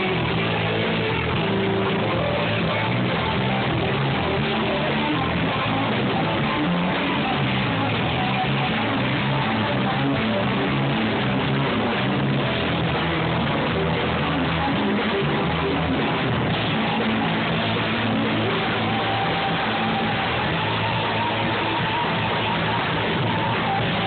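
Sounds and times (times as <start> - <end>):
drum kit: 0.0 - 24.0
electric guitar: 0.0 - 24.0.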